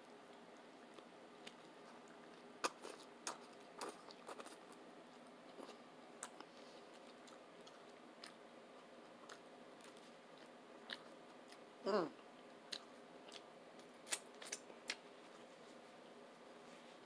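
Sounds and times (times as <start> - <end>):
chewing food: 0.3 - 15.5.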